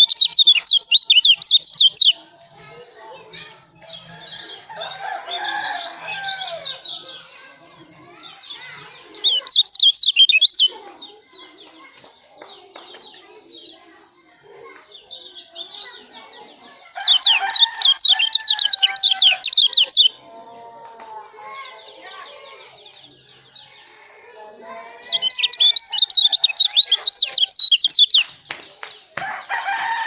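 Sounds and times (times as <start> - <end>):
songbird chirping: 0.0 - 30.0.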